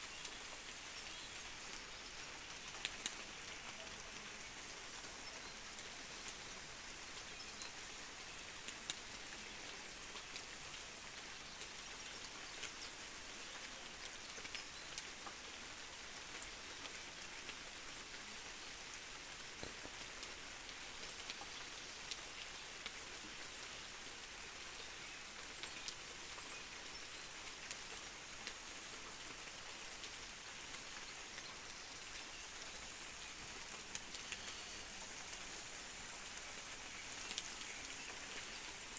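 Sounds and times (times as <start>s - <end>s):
raindrops ticking on surfaces: 0.0s - 38.9s
steady rain hiss: 0.0s - 38.9s.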